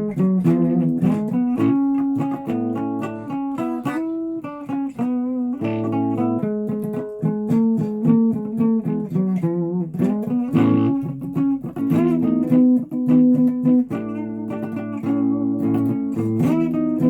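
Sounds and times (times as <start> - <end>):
guitar plucked notes: 0.0 - 17.0.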